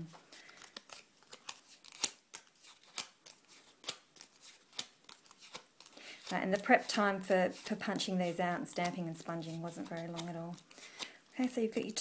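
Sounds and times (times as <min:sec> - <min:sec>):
bone folder scraping paper: 0:01.4 - 0:11.1.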